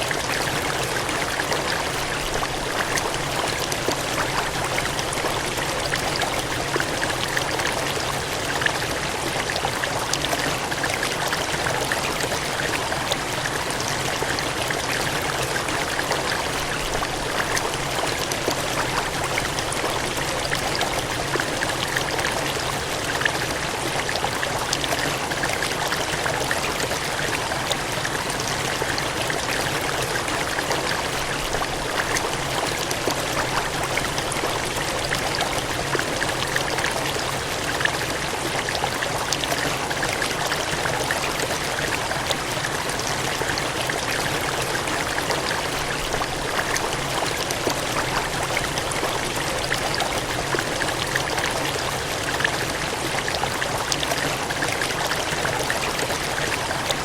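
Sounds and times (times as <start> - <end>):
water gushing and cascading: 0.0 - 57.0.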